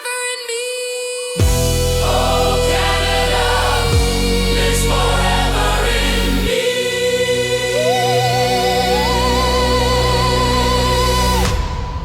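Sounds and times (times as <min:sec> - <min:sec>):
choir-like voices: 0:00.0 - 0:12.0
deep bass: 0:01.4 - 0:06.6, 0:07.4 - 0:12.0
sustained chords: 0:01.4 - 0:11.5.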